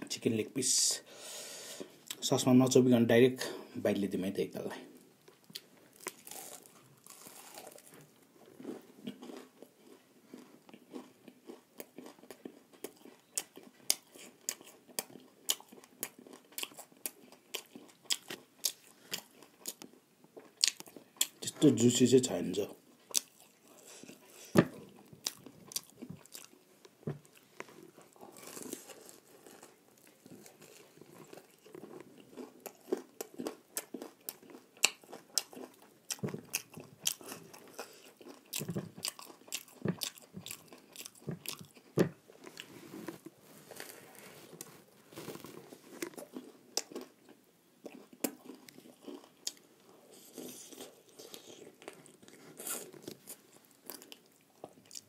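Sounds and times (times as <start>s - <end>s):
chewing fried chicken crunches: 5.3s - 21.5s, 23.0s - 55.0s.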